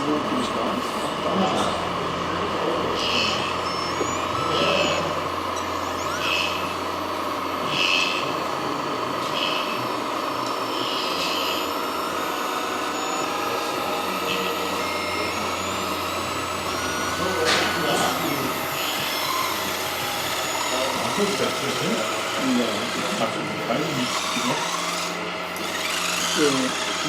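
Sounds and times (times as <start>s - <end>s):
electric motors and hydraulics whining: 0.0s - 27.0s.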